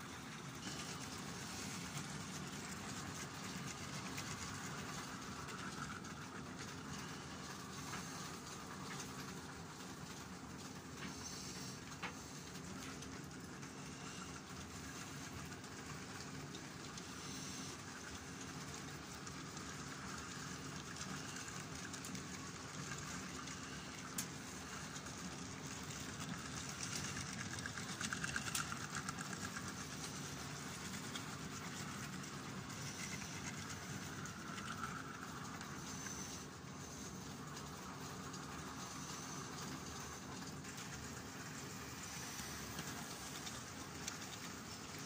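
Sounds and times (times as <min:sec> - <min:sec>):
model train wheels rumbling: 0:00.0 - 0:45.0.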